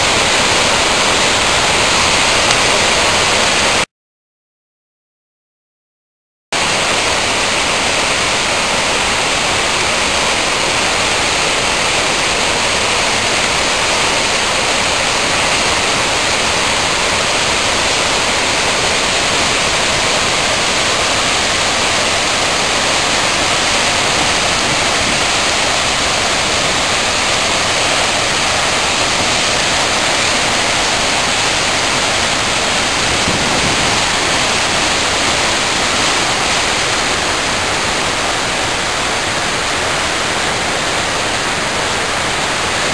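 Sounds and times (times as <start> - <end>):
waterfall rushing: 0.0 - 3.9, 6.6 - 42.9.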